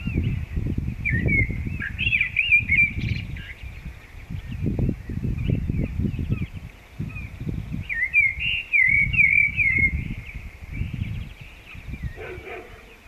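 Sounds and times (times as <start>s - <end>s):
blackbird singing: 0.0s - 13.0s.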